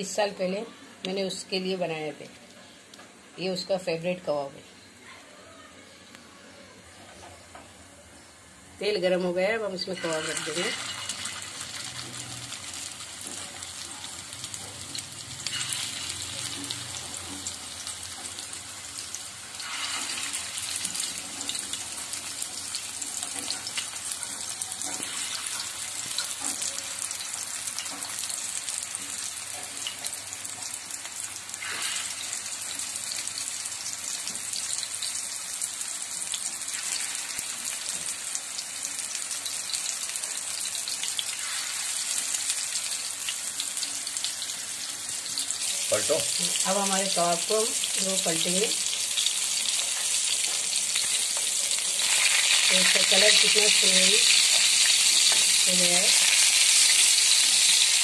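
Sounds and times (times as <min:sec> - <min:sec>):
meat sizzling in hot oil: 0:08.2 - 0:58.0.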